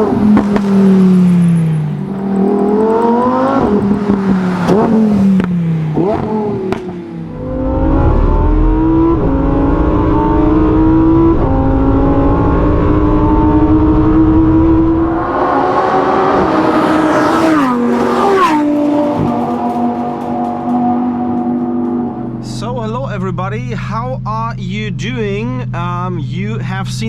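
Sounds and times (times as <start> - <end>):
sports car engine accelerating: 0.0 - 27.0.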